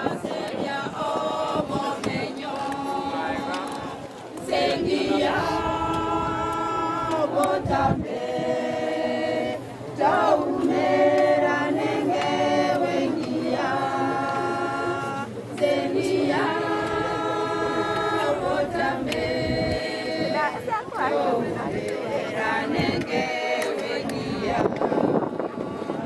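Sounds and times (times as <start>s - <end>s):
group singing without instruments: 0.0s - 26.0s.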